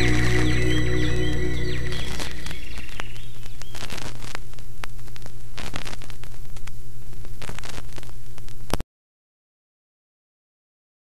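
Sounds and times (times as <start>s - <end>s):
loud crackling static: 0.0s - 8.8s.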